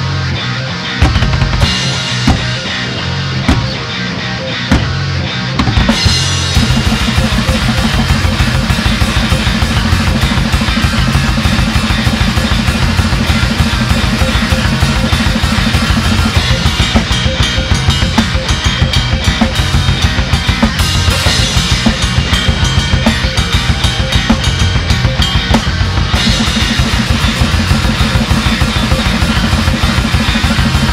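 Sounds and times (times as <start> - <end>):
rock band playing: 0.0 - 30.9
fast drum beat: 1.0 - 2.9, 5.6 - 30.9.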